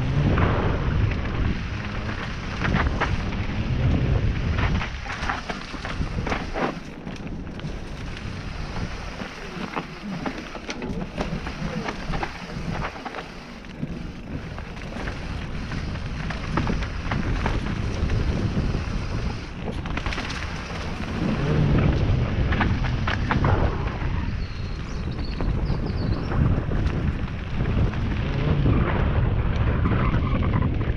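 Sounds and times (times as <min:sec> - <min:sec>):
bike rattling and knocking: 0:00.0 - 0:30.9
tyre rumble: 0:00.0 - 0:30.9
wind buffeting microphone: 0:00.0 - 0:30.9.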